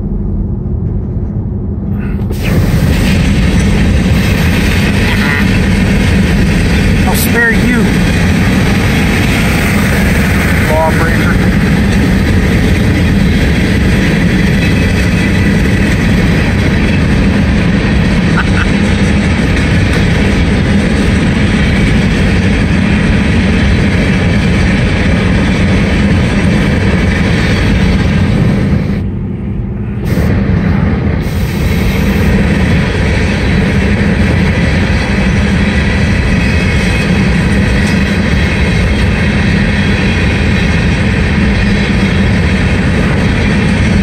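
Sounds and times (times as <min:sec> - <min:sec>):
car road and wind noise: 0:00.0 - 0:44.0
low hum: 0:00.0 - 0:44.0.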